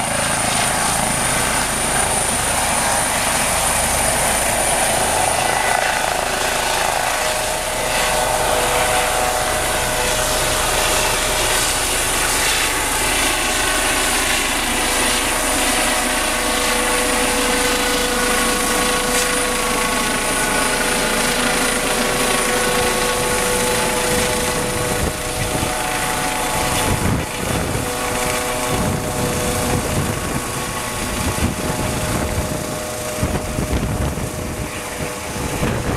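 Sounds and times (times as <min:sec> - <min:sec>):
helicopter turbine whine and rotor: 0:00.0 - 0:35.9.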